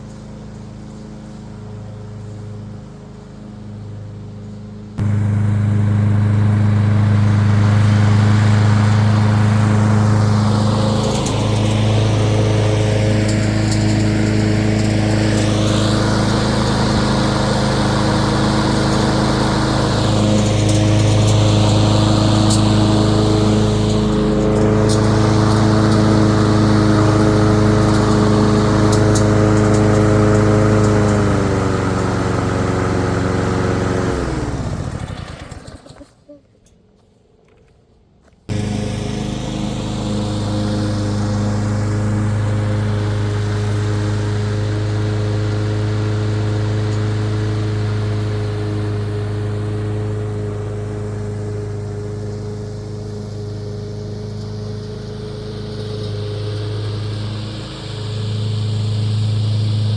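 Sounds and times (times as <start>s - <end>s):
lawn mower cutting grass: 0.0s - 36.4s, 38.5s - 59.9s.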